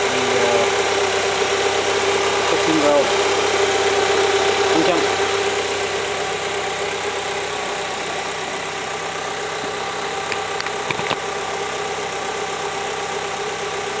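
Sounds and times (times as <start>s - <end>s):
petrol engine idling: 0.0s - 14.0s.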